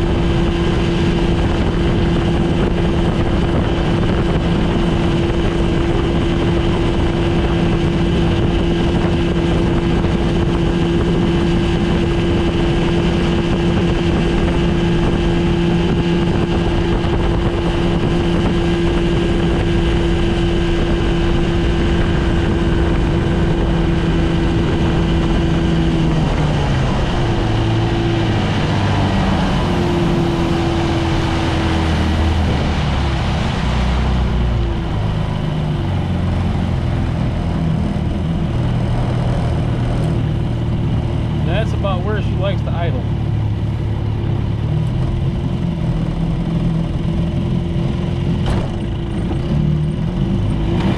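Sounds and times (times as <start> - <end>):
outboard motor running: 0.0 - 50.9.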